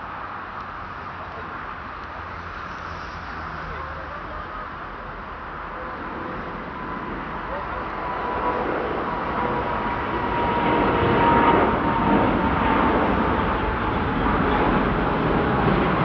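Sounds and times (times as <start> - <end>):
thin steady whine: 0.0 - 15.7
jet engines rushing: 0.0 - 16.0.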